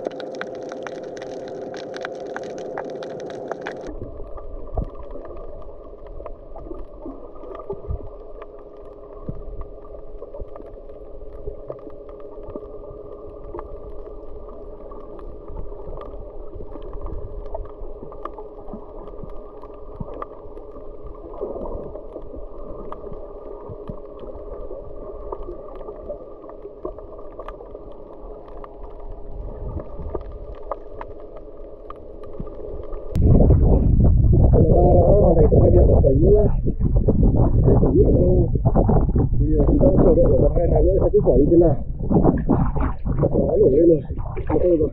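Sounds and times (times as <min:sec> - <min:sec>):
faint clicks and crackles: 0:00.0 - 0:33.7, 0:34.5 - 0:44.9
muffled underwater hum: 0:00.0 - 0:44.9.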